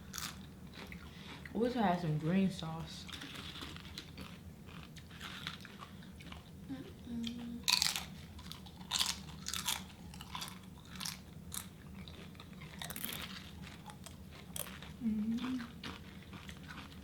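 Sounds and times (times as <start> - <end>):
crunchy biting and chewing: 0.0 - 1.5, 3.1 - 6.6, 7.6 - 17.0.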